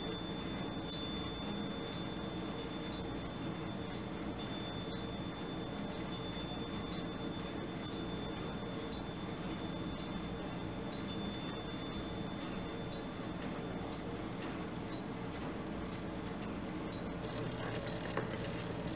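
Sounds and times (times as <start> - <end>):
faint clock ticking: 0.0 - 18.9.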